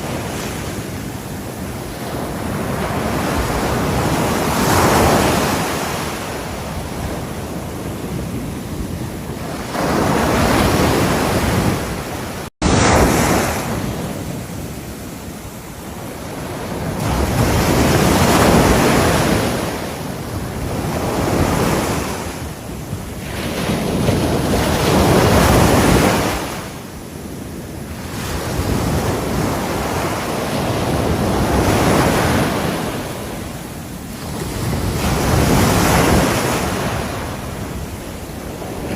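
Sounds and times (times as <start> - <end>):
ocean waves breaking on shore: 0.0 - 38.9
wind noise on microphone: 0.0 - 38.9.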